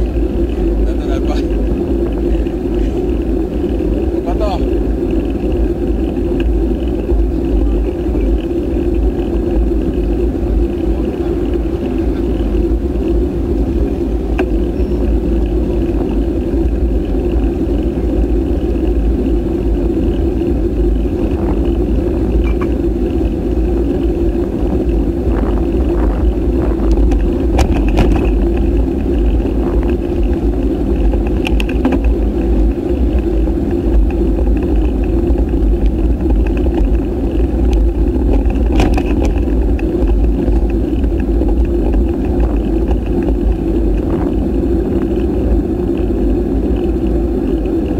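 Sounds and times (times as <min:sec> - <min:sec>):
road rumble: 0:00.0 - 0:47.9
wind on microphone: 0:00.0 - 0:47.9.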